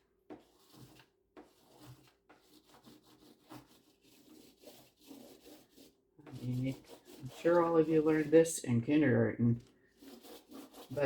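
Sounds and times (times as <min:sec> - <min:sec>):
crayon scratching on paper: 0:00.3 - 0:08.8, 0:09.6 - 0:11.0.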